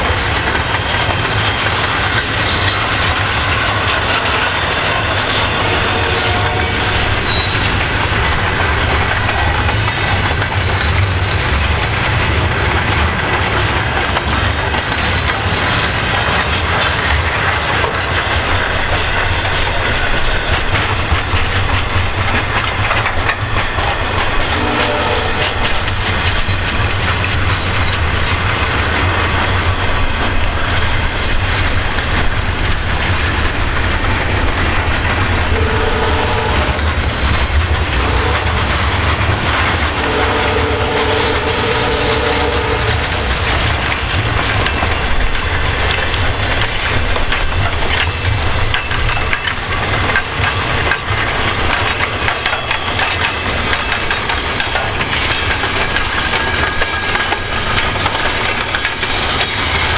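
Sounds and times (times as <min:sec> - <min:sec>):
freight train rumble: 0:00.0 - 0:59.9
wheels clattering over rail joints: 0:00.0 - 0:59.9.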